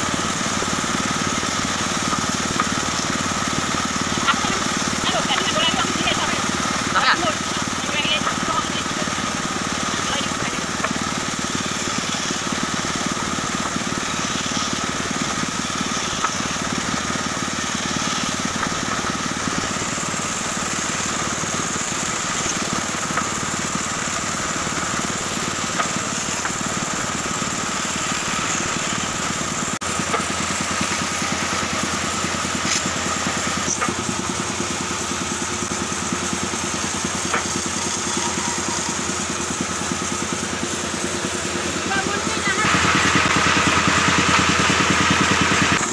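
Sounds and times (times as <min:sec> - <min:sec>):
bandsaw cutting wood: 0:00.0 - 0:45.9.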